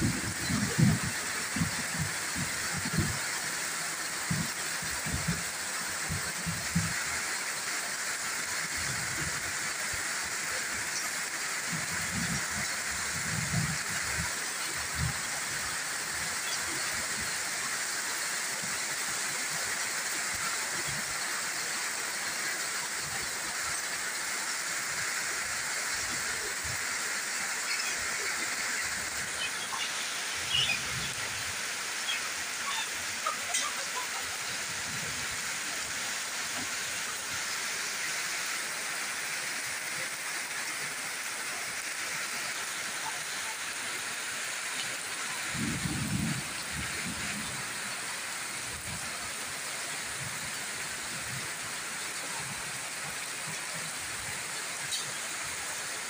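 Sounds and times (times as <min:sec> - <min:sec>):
rain on leaves and metal roof: 0:00.0 - 0:56.0.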